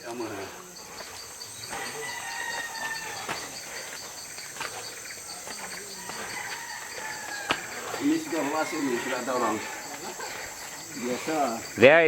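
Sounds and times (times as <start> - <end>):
insects chirring: 0.0 - 12.0
rapid high pulsing chirp: 0.2 - 12.0.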